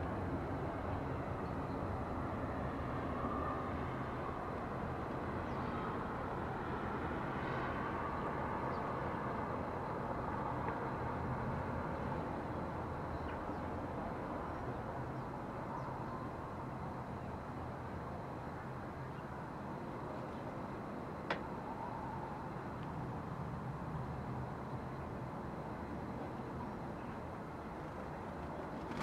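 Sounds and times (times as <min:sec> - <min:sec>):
low rumble of distant traffic: 0:00.0 - 0:29.0.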